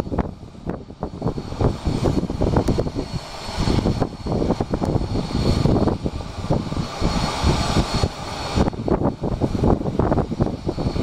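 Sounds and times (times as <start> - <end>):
jet engines whining: 0.0 - 11.0
wind buffeting microphone: 0.0 - 11.0.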